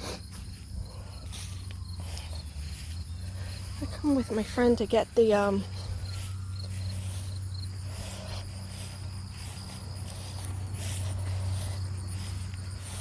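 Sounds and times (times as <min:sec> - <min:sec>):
insects trilling: 0:00.0 - 0:13.0
plants rustling: 0:00.0 - 0:13.0
steady low hum: 0:00.0 - 0:13.0.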